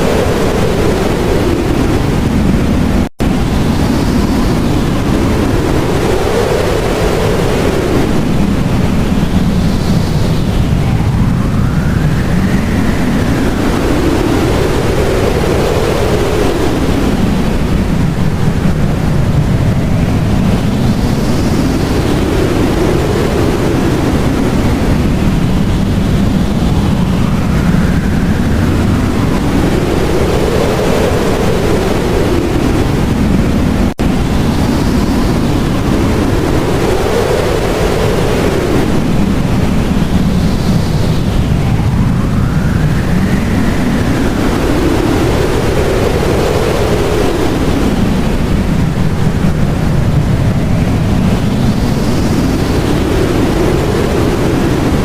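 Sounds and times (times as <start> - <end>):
whistling blizzard wind: 0.0 - 55.0.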